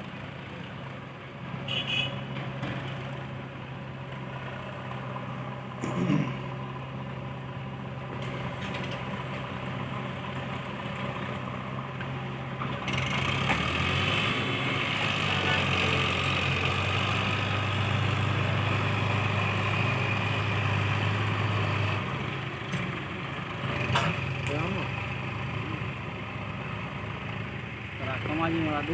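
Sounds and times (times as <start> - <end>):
heavy diesel engine running: 2.2 - 28.9.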